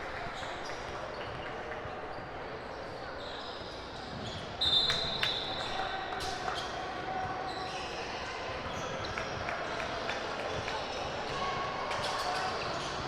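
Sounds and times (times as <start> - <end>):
voices in a gym: 0.0 - 13.0.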